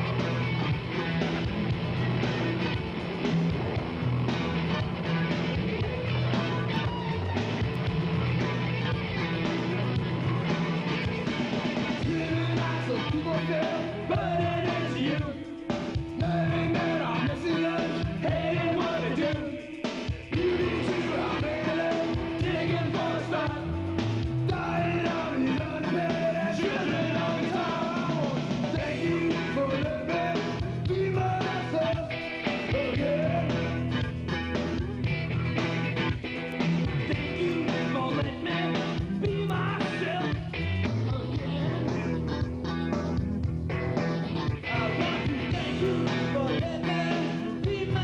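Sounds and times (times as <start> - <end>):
rock song with singing: 0.0 - 48.0.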